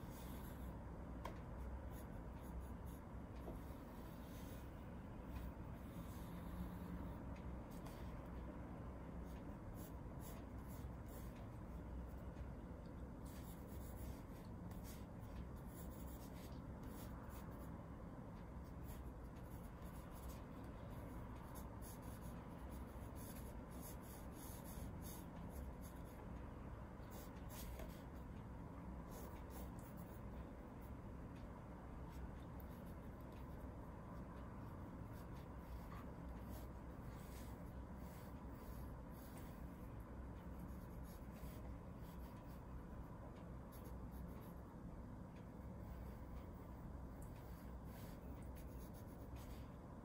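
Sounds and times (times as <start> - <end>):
pencil scratching on paper: 0.0 - 8.2, 9.2 - 17.7, 18.5 - 26.2, 27.0 - 28.3, 29.1 - 31.0, 32.0 - 42.8, 43.7 - 44.6, 45.4 - 49.8
low room hum: 0.0 - 50.0.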